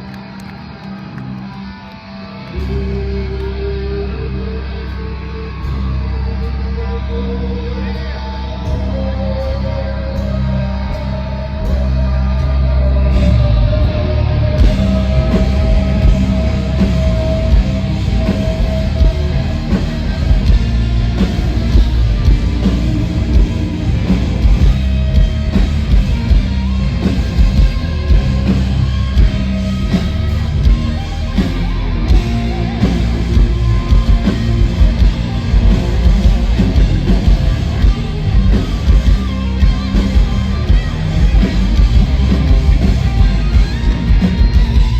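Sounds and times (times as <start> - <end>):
bass: 0.0 - 44.9
distorted guitars: 0.0 - 44.9
drums: 0.0 - 44.9.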